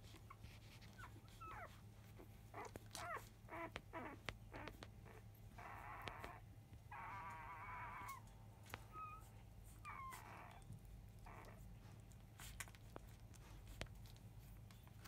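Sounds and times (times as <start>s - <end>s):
puppy whining: 0.0s - 15.0s
puppies squeaking: 0.1s - 15.0s.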